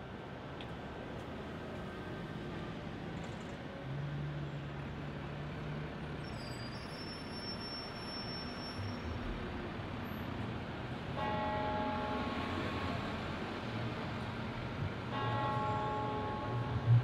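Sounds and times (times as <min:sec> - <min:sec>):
city traffic hum: 0:00.0 - 0:17.0.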